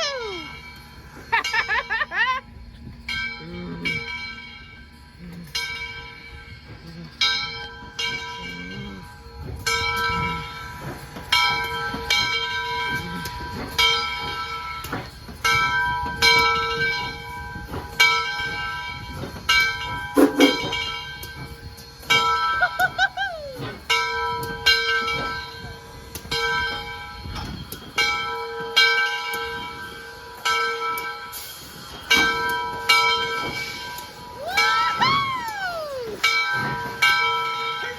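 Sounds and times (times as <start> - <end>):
locomotive bell ringing: 0.0 - 37.9.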